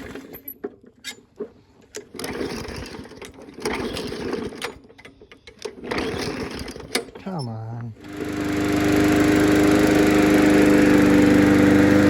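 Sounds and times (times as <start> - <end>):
lawnmower pull-starter cranking: 0.0 - 12.0.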